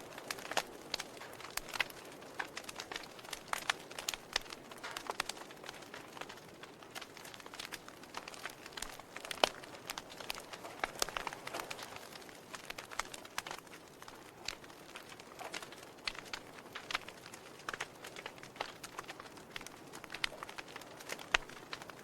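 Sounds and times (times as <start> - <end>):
soft fire hiss: 0.0 - 22.0
wood fire popping and snapping: 0.0 - 22.0.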